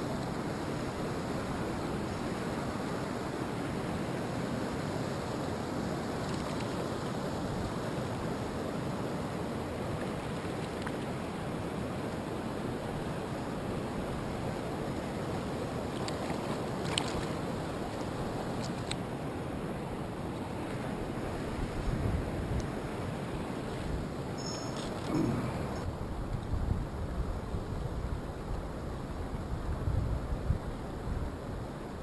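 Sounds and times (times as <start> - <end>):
stream water rushing: 0.0 - 25.9.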